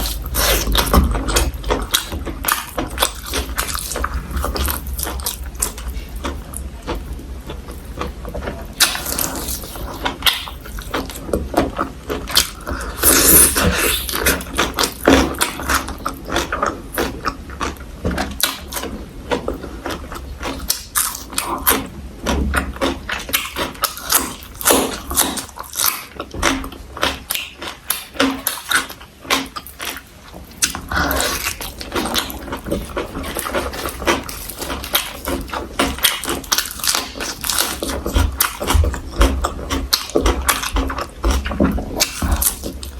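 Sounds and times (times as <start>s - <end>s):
wet mouth sounds: 0.0s - 21.9s, 22.6s - 42.9s
chewing and crunching food: 0.0s - 42.9s.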